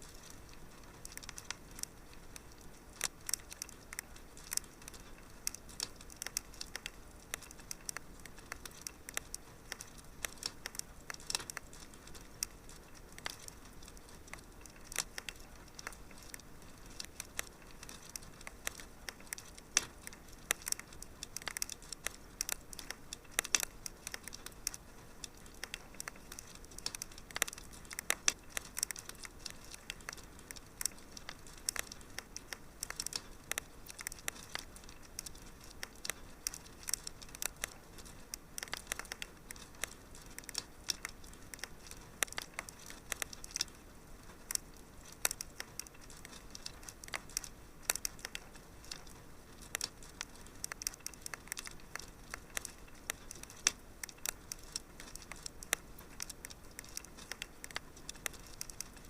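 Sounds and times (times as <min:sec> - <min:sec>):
faint steady hiss: 0:00.0 - 0:59.0
wood fire crackling and popping: 0:00.0 - 0:59.0.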